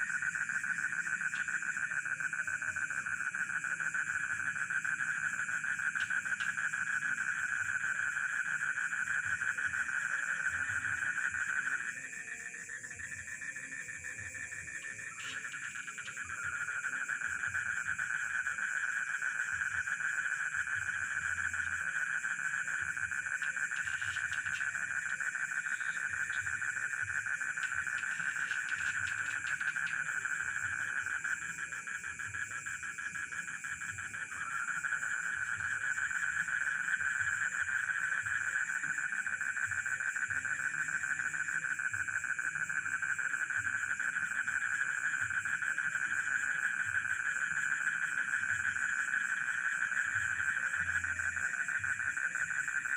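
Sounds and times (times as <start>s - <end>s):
crickets: 0.0s - 52.9s
frogs chorus: 0.0s - 52.9s.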